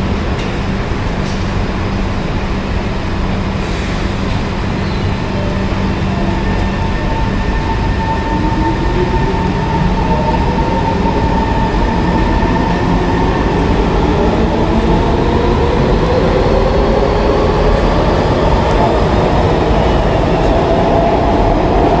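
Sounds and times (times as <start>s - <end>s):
metro train rumbling: 0.0s - 22.0s.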